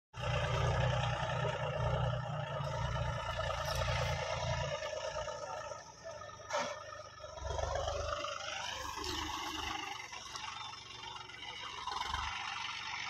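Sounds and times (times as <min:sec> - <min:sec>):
tractor diesel engine rumbling: 0:00.1 - 0:13.0.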